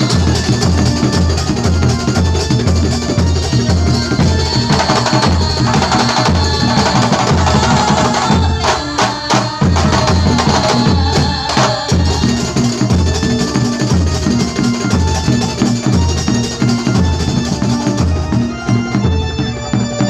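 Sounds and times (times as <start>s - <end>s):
frame drums and percussion music: 0.0s - 20.0s.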